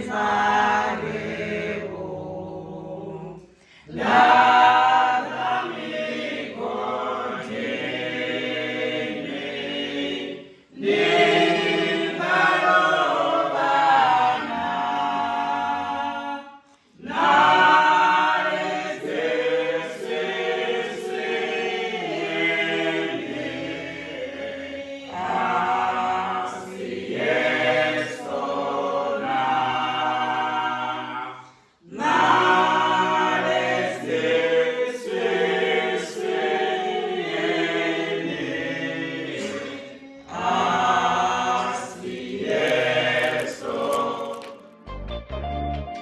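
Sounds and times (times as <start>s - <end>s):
choir singing a hymn: 0.0s - 44.7s.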